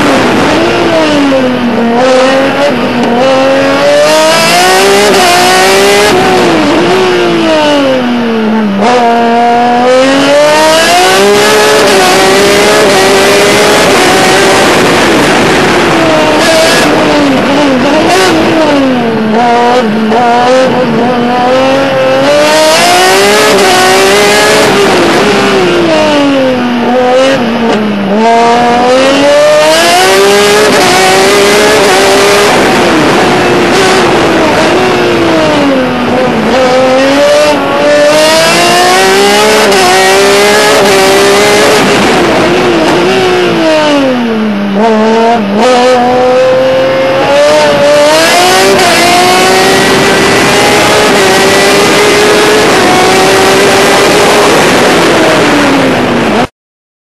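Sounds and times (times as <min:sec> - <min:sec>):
racing car engine revving: 0:00.0 - 0:56.5.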